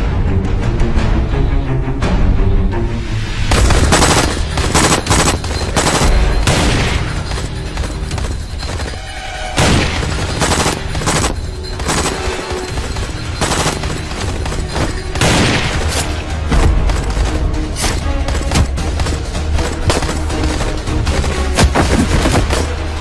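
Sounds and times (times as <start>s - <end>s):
action music with low drone: 0.0s - 23.0s
gunfire shots and bursts: 3.5s - 23.0s.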